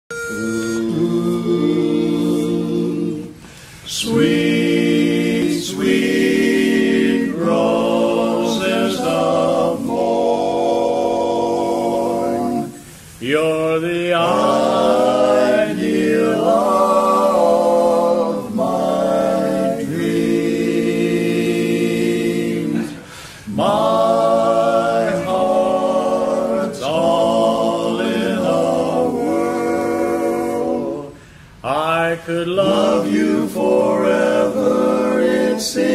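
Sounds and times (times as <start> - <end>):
male quartet singing a cappella: 0.1 - 35.9.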